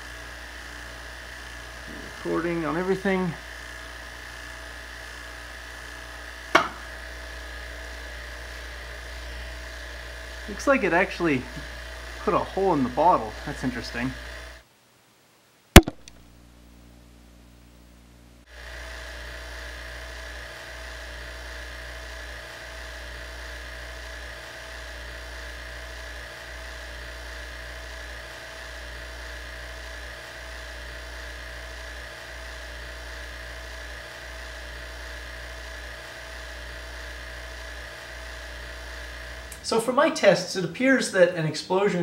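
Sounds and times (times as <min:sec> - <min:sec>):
mechanical hum with high whine: 0:00.0 - 0:42.0.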